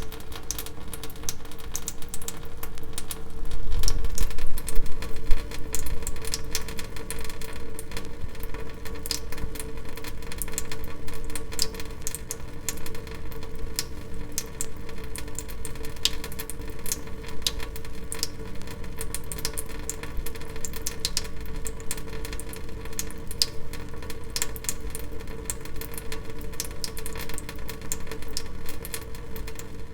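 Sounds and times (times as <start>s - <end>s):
water dripping: 0.0s - 29.9s.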